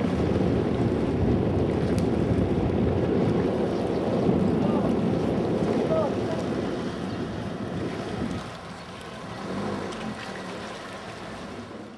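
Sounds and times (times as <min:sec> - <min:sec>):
wind rushing over microphone: 0:00.0 - 0:09.9
water washing along hull: 0:00.0 - 0:11.9.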